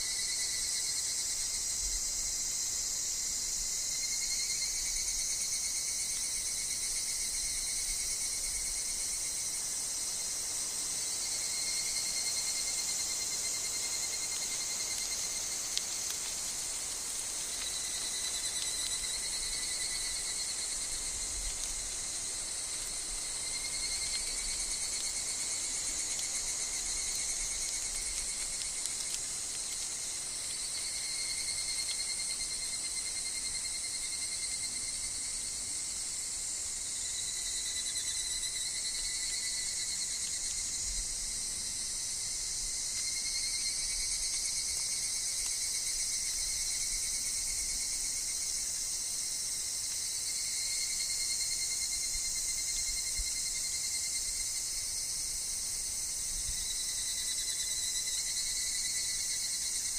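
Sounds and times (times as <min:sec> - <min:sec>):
insects chorus with cicadas trilling: 0:00.0 - 0:59.9.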